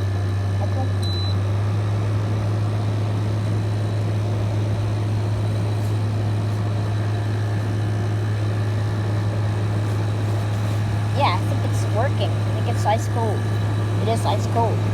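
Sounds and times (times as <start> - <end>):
compressor low hum: 0.0 - 14.9
fan rushing: 0.0 - 14.9.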